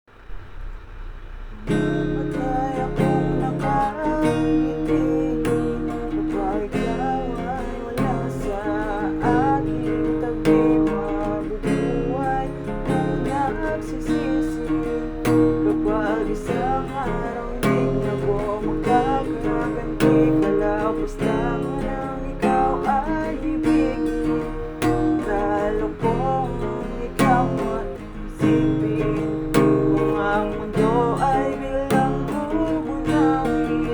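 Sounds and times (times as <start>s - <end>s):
acoustic guitar strumming: 0.1s - 33.9s.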